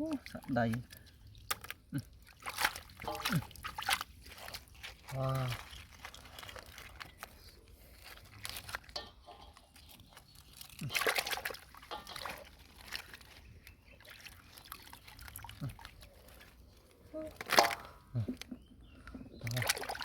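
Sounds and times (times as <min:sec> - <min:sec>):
pond water splashing: 0:00.0 - 0:18.4, 0:19.4 - 0:20.0.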